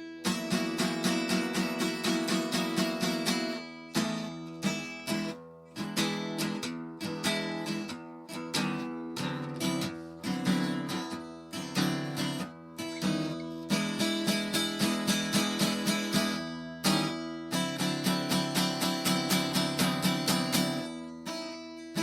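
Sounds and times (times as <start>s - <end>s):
plucked string background music: 0.0s - 22.0s.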